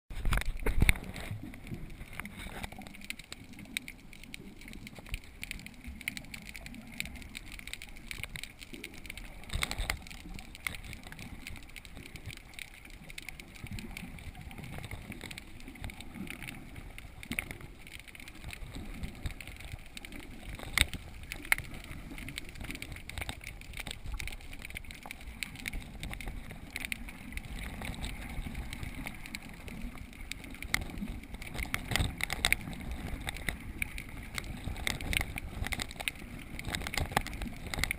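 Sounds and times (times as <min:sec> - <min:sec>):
muffled underwater rush: 0:00.1 - 0:37.9
underwater clicks and pops: 0:00.1 - 0:37.9.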